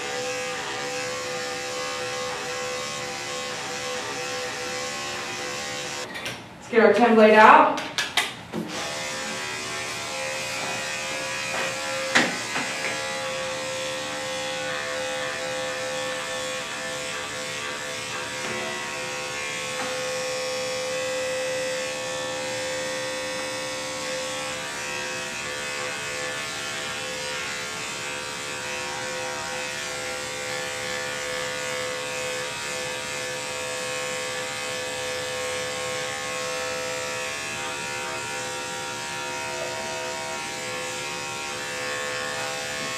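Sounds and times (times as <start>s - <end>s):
electric clipper buzzing: 0.0s - 6.1s, 8.2s - 42.9s.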